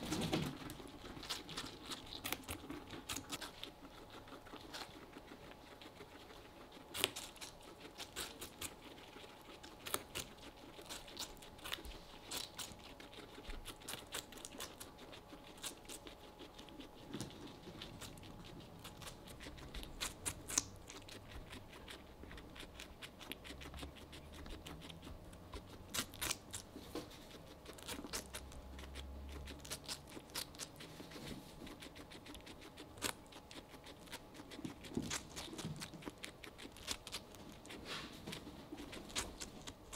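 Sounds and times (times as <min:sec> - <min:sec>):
faint low hum: 0:00.0 - 0:39.9
guinea pigs crunching fruit: 0:00.0 - 0:39.9.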